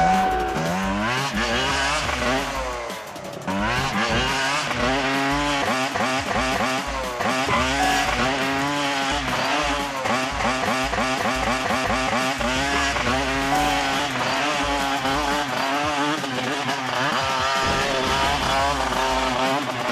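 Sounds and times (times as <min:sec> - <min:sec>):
motocross bike engines revving: 0:00.0 - 0:19.9.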